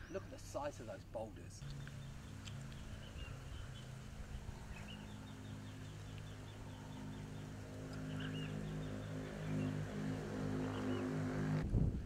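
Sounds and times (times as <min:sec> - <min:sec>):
steady low hum: 0:01.4 - 0:12.0.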